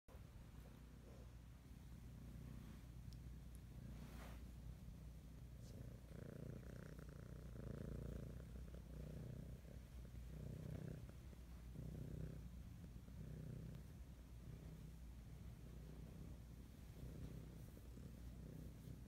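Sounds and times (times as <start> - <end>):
cat purring: 0.1 - 19.0.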